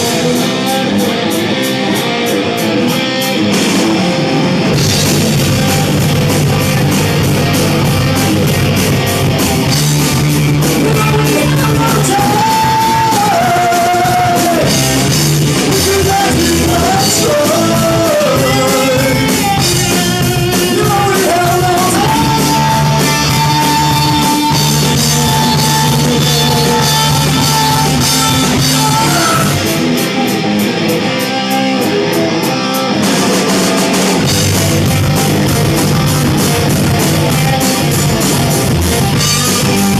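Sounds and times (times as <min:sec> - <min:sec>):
hard rock song: 0:00.0 - 0:39.9.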